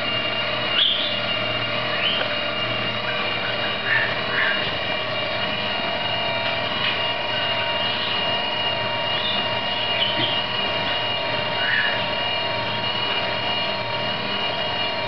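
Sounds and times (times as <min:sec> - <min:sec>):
propellers whirring with high whine: 0:00.0 - 0:15.0.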